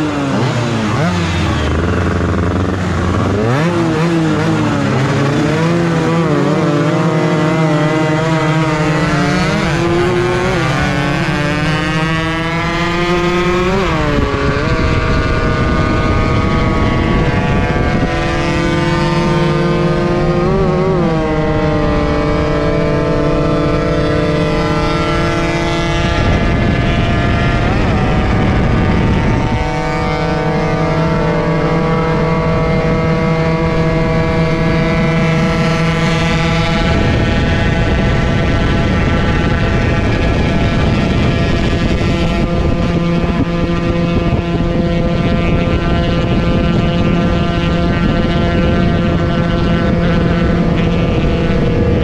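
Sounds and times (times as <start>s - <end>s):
motorcycle engine accelerating: 0.0s - 52.0s
wind noise: 0.0s - 52.0s.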